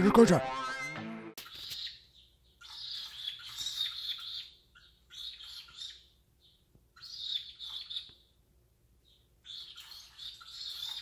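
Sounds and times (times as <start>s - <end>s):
cockatiels chirping: 1.4s - 8.3s, 9.0s - 11.0s.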